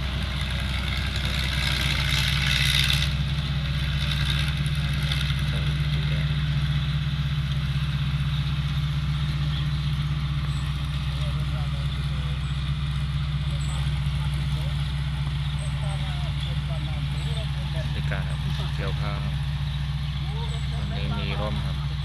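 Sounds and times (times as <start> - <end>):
harvester engine humming: 0.0 - 22.0.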